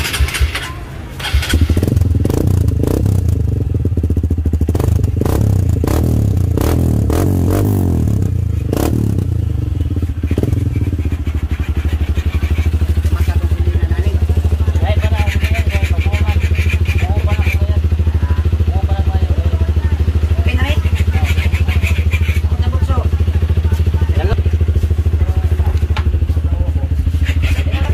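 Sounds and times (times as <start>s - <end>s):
dirt bike engine idling: 0.0s - 27.9s.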